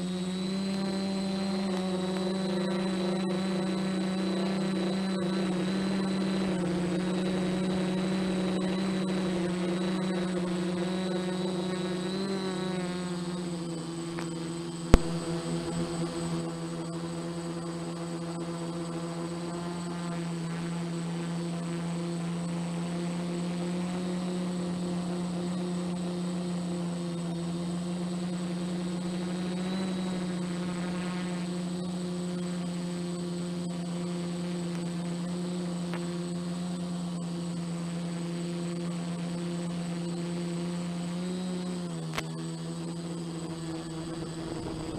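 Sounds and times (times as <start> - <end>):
drone propellers humming: 0.0 - 44.9.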